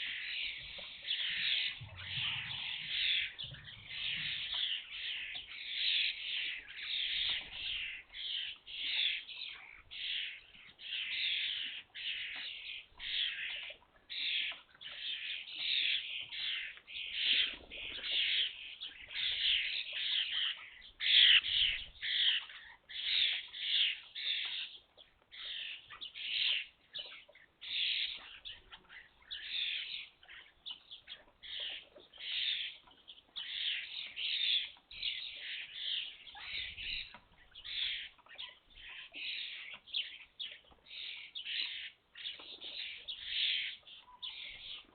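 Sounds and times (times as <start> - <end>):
young starlings calling: 0.0 - 44.9.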